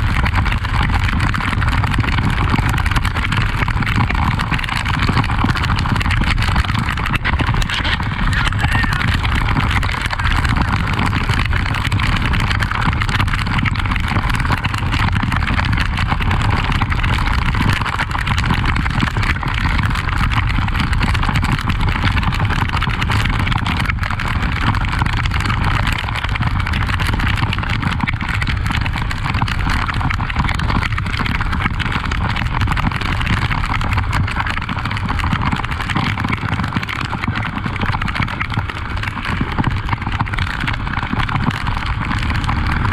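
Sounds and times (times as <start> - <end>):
constant rushing noise: 0.0 - 42.9
motorcycle engine running: 0.0 - 42.9.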